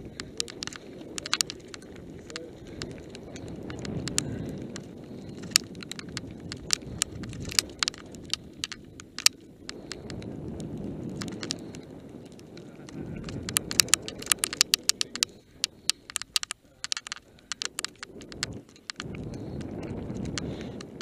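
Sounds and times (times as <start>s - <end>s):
bike rattling clicks: 0.0s - 21.0s
tyre rumble over loose stones: 0.0s - 21.0s.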